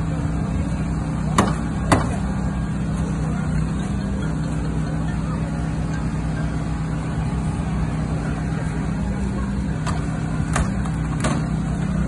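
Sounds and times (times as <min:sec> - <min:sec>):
power unit engine running: 0:00.0 - 0:12.0.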